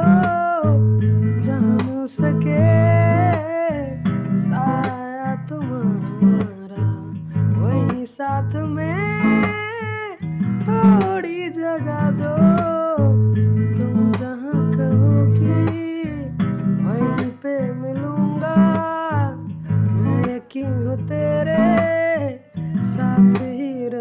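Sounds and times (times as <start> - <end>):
acoustic guitar strumming: 0.0 - 24.0
man singing love song: 0.0 - 24.0.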